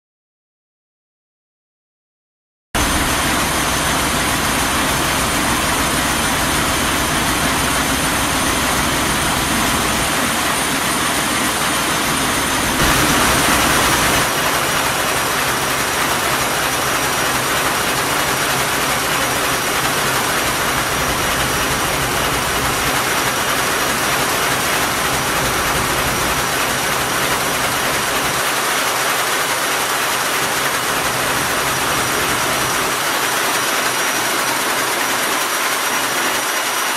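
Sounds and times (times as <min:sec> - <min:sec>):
diesel engine running: 0:02.8 - 0:36.9.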